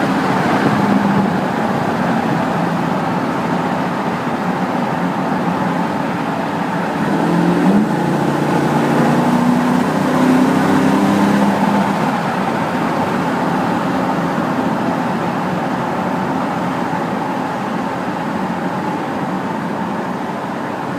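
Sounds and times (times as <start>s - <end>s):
car engine rumbling in tunnel: 0.0s - 20.9s
road noise: 0.0s - 20.9s.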